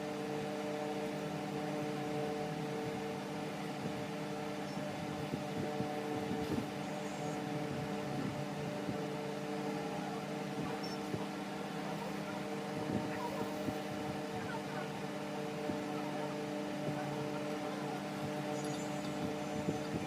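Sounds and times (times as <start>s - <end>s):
electric fan humming: 0.0s - 20.0s.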